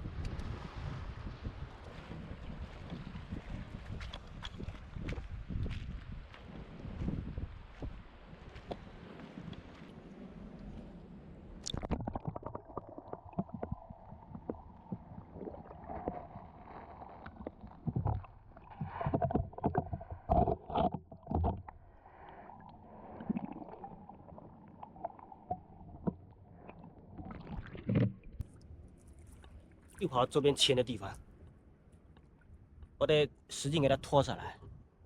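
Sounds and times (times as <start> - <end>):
seawater splashing and sloshing: 0.3 - 30.8.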